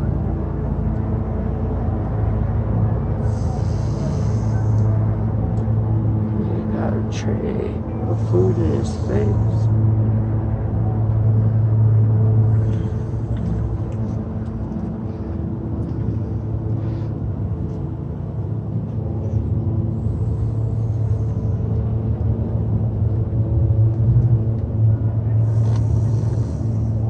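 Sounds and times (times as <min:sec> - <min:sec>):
engine idling hum: 0:00.0 - 0:27.0.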